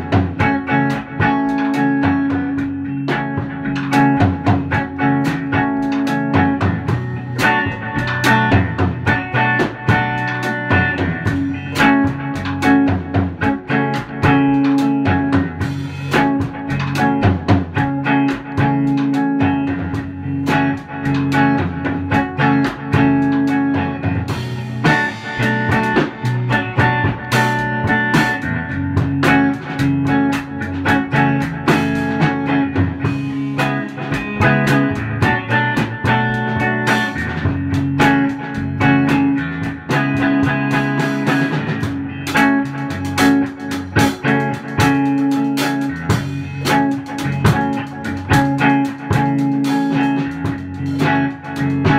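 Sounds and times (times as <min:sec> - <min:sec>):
drum kit: 0:00.0 - 0:51.9
electric guitar: 0:00.0 - 0:51.9.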